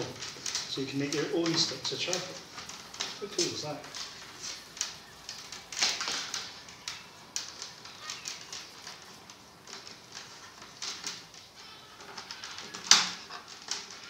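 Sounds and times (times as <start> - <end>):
willow rods clicking and snapping: 0.0 - 14.0.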